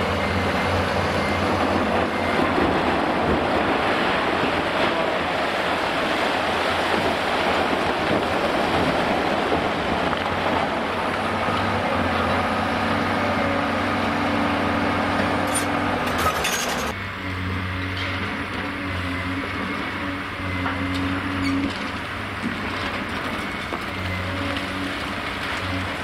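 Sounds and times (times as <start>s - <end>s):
excavator diesel engine humming: 0.0s - 26.0s.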